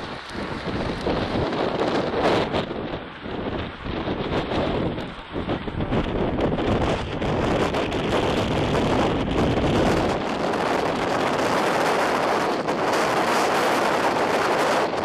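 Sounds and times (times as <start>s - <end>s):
heavy low rumble: 0.0s - 15.0s
rain against a car: 0.0s - 15.0s
storm wind: 0.0s - 15.0s
wind buffeting microphone: 0.0s - 15.0s.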